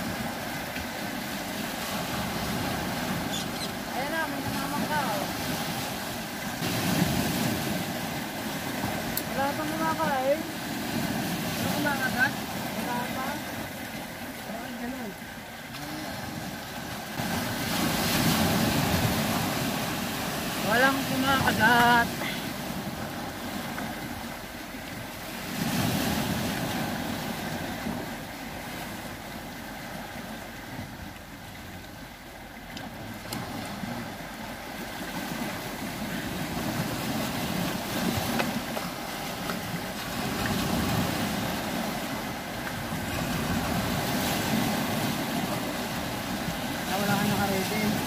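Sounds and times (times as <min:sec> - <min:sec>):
waves washing onto rocky shore: 0:00.0 - 0:48.0.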